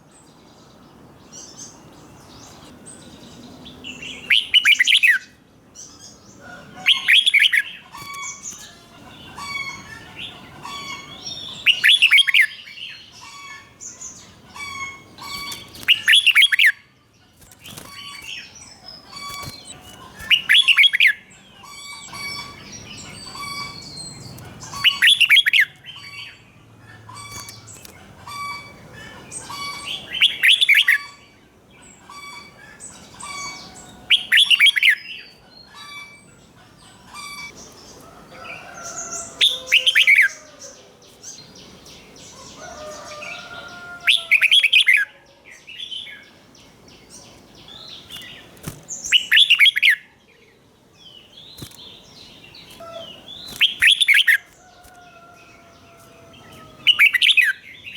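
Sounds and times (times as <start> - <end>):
soft bird chirps: 0.0 - 57.9.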